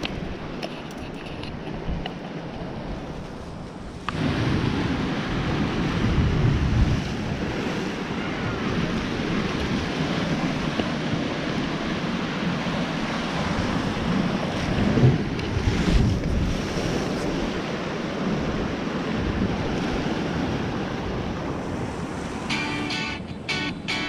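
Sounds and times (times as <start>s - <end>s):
wind buffeting microphone: 0.0s - 22.6s
sea waves breaking on rocks: 1.5s - 24.0s.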